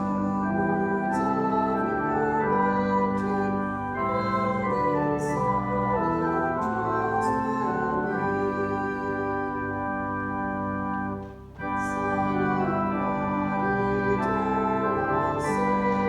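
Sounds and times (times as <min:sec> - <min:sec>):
church organ playing a hymn: 0:00.0 - 0:16.0.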